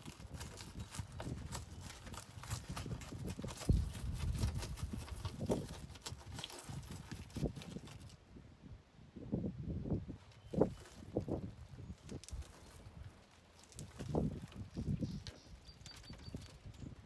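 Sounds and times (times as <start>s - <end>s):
knocks taps and scrapes: 0.0s - 8.2s, 10.6s - 17.0s.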